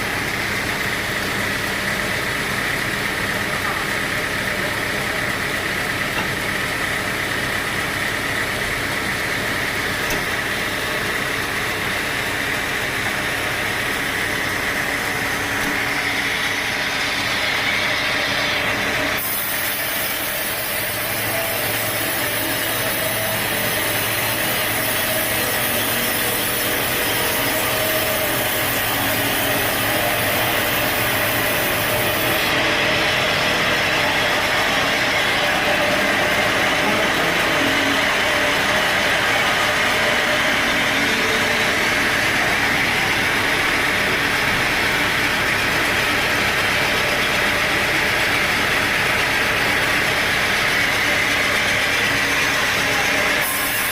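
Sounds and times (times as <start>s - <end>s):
sawmill machinery running: 0.0s - 53.9s
saw cutting wood: 4.6s - 53.9s.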